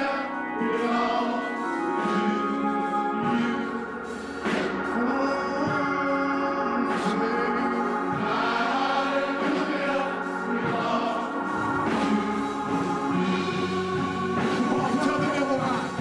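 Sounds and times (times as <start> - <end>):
man singing into a microphone: 0.0 - 4.1, 4.8 - 16.0
gospel choir singing: 0.0 - 16.0.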